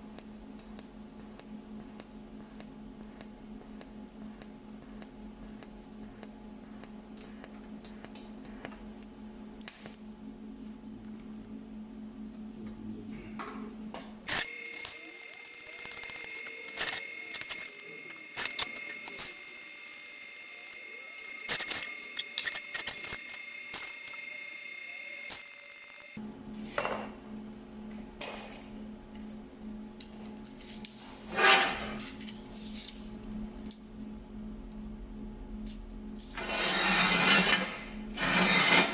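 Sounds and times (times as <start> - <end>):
low machine hum: 0.0 - 25.3, 26.1 - 38.9.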